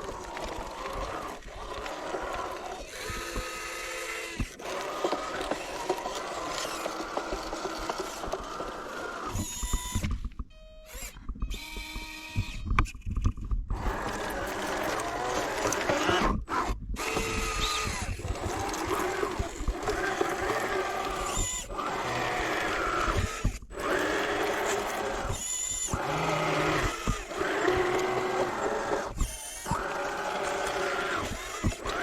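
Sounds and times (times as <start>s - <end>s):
small electric motors whirring: 0.0s - 32.0s.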